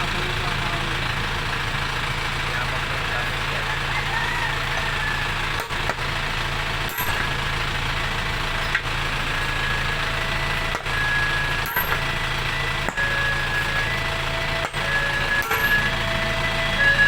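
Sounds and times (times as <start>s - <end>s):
machine engine humming: 0.0s - 17.0s.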